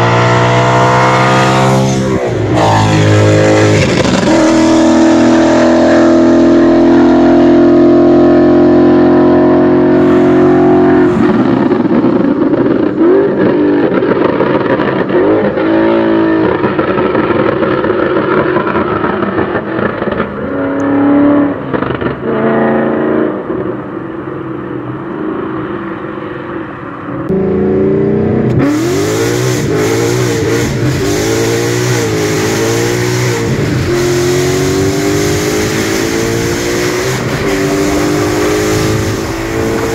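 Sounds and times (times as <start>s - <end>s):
loud car engine revving: 0.0s - 24.4s, 27.1s - 39.9s.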